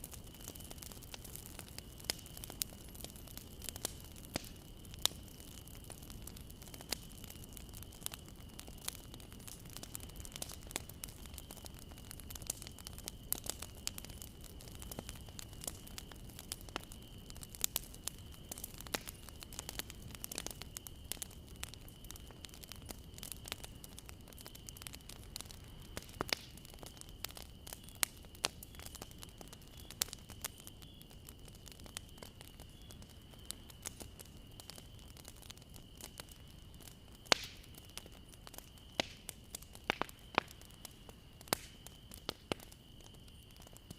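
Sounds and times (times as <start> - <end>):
bonfire crackling and popping: 0.0 - 43.9
low rumble of fire: 0.0 - 43.9.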